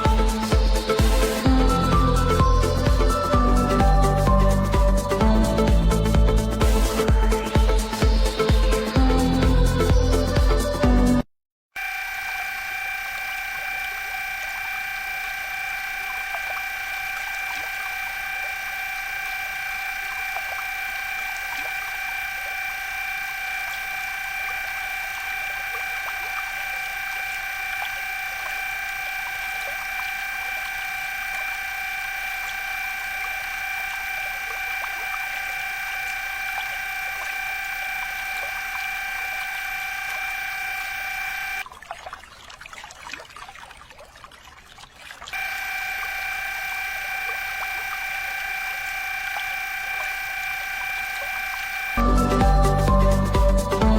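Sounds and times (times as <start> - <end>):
small motor whining: 0.0 - 11.2, 11.8 - 41.7, 45.3 - 53.9.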